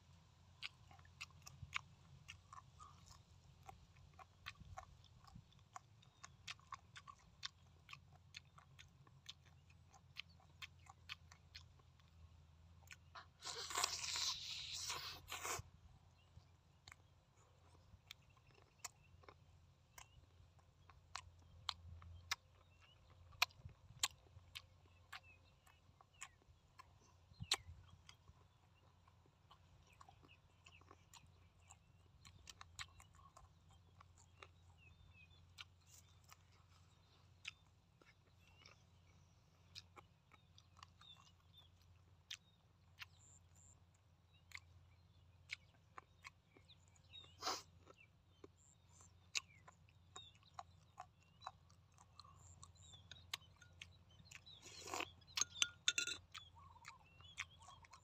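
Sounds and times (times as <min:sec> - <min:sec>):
man chewing with wet smacks: 0:00.0 - 0:58.0.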